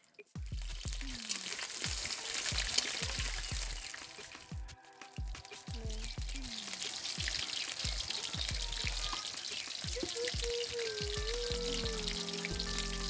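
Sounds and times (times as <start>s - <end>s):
potatoes sizzling in hot oil: 0.4s - 13.0s
background music plucked notes: 2.5s - 13.0s.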